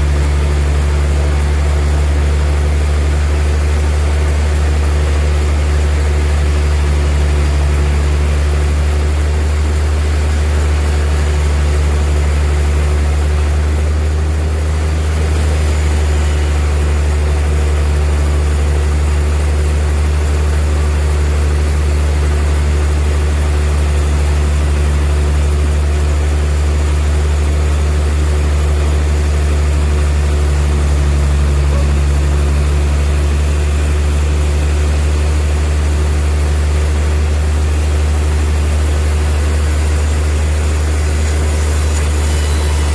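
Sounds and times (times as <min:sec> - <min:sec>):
bandsaw machinery drone: 0:00.0 - 0:42.9.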